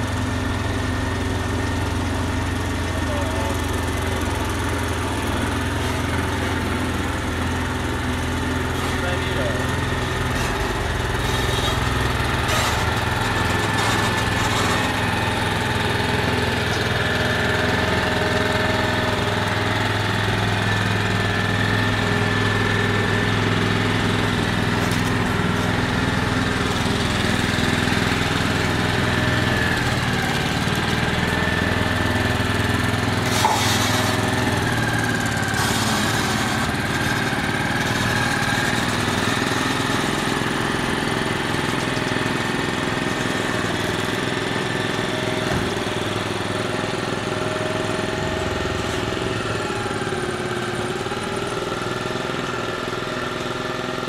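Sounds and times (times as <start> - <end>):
heavy truck engine droning: 0.0 - 54.0.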